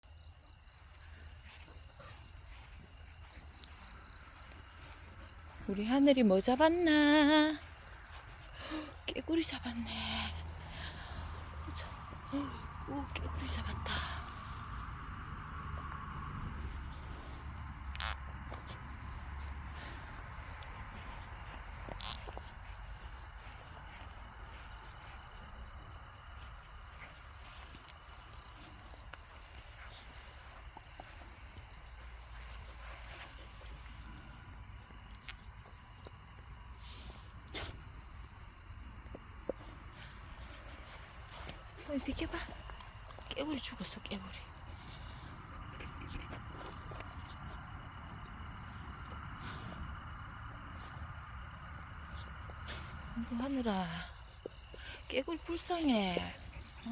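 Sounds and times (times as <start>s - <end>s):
insects trilling: 0.0s - 56.9s.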